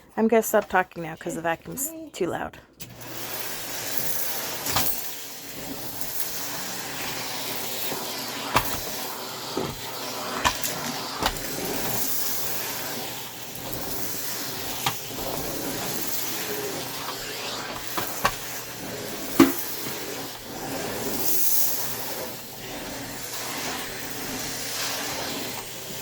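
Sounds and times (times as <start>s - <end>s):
vacuum cleaner running: 2.8s - 26.0s.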